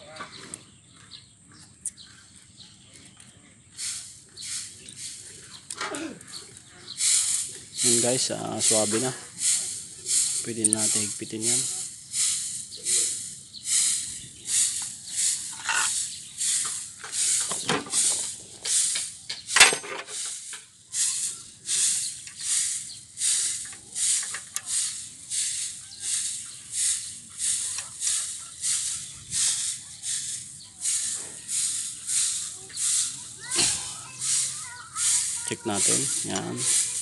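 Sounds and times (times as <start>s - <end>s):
rhythmic high hissing swishes: 3.7s - 37.0s.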